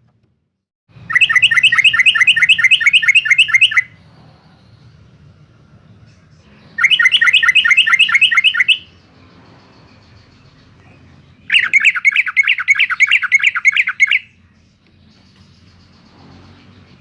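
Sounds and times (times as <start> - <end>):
bird chirping song: 1.0 - 17.0.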